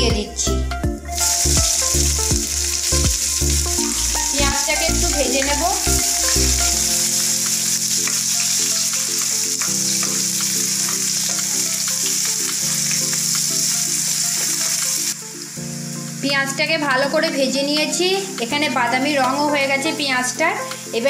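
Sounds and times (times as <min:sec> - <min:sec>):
onions sizzling in hot oil: 0:01.2 - 0:21.0.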